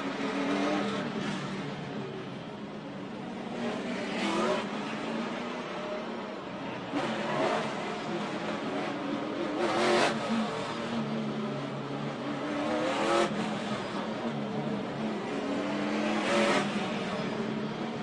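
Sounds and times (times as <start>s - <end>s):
race car engine: 0.0s - 18.0s
surrounding race car engines: 0.0s - 18.0s.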